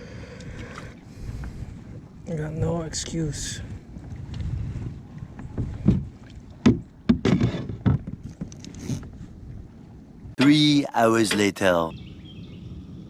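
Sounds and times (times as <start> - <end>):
wind and water rumble: 0.0 - 13.0.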